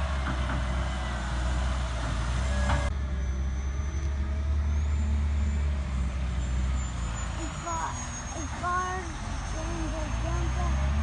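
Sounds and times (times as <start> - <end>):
heavy diesel engines running: 0.0 - 11.0.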